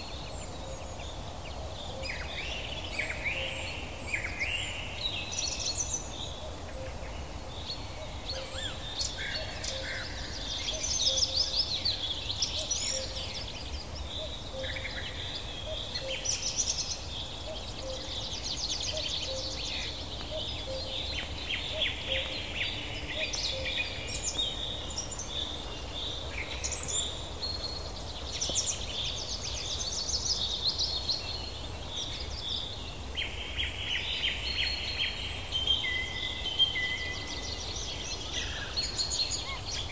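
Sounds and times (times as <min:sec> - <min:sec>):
low steady background noise: 0:00.0 - 0:39.9
songbirds chirping and trilling: 0:00.0 - 0:39.9.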